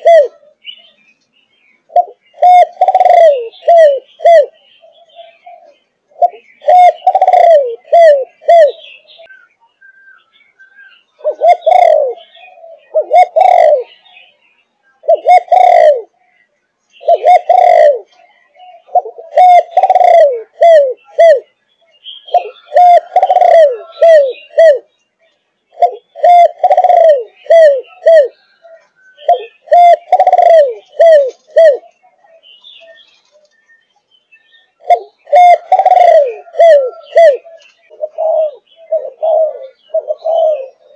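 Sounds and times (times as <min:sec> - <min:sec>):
dove cooing: 0:00.0 - 0:01.0, 0:01.9 - 0:09.5, 0:10.2 - 0:14.4, 0:15.0 - 0:25.0, 0:25.7 - 0:33.6, 0:34.7 - 0:40.9.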